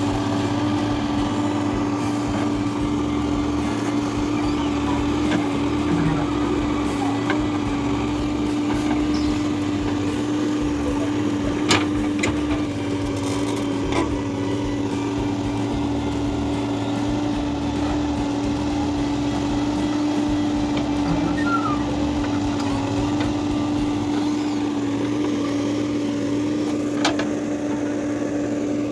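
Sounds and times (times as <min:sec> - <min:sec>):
motor humming: 0:00.0 - 0:27.8.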